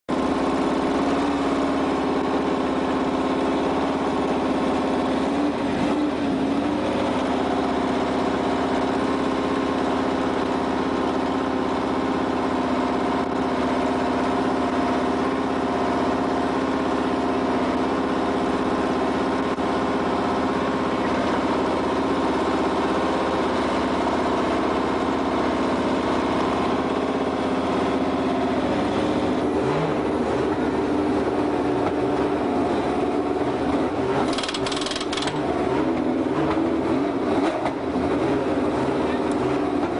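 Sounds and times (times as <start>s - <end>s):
race car engine idling: 0.1s - 39.9s.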